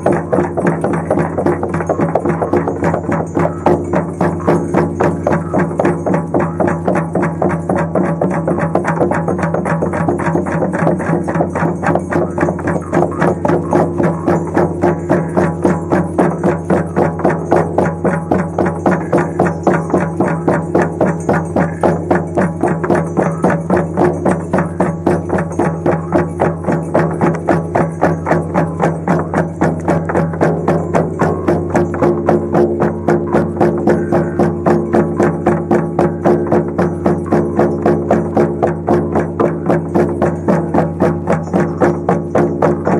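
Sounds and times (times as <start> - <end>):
frame drums beating: 0.0 - 42.9.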